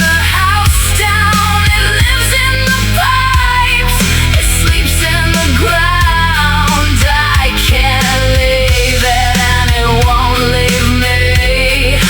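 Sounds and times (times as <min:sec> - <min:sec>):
heavy rock music: 0:00.0 - 0:12.0.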